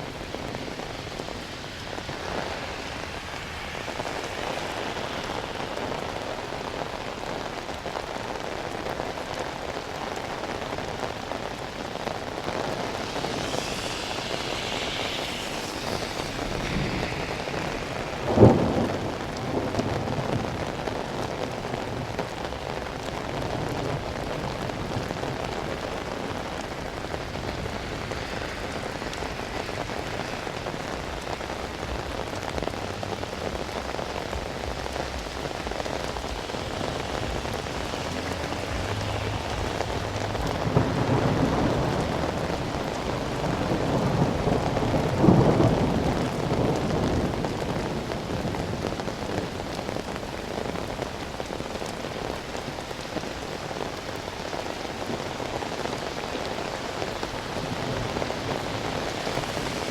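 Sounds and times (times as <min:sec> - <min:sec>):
rain falling on pavement: 0:00.0 - 0:59.9
thunder clap and rumble: 0:09.5 - 0:59.9.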